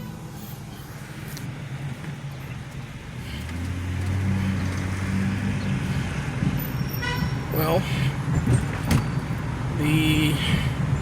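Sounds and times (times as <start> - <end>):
car engine hum from inside cabin: 0.0 - 11.0
road noise: 0.0 - 11.0.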